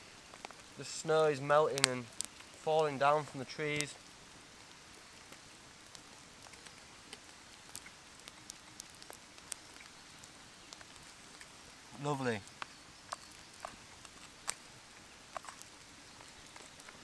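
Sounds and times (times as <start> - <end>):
meltwater dripping from trees: 0.0 - 17.0.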